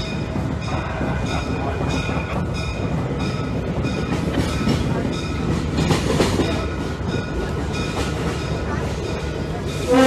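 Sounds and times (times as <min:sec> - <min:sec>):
diesel railcar rumbling on track: 0:00.0 - 0:10.0.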